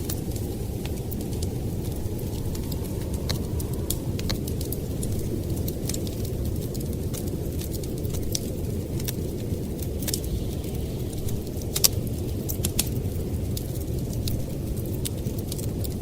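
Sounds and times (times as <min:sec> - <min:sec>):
blizzard wind rushing: 0:00.0 - 0:16.0
wood fire crackling and popping: 0:00.0 - 0:16.0.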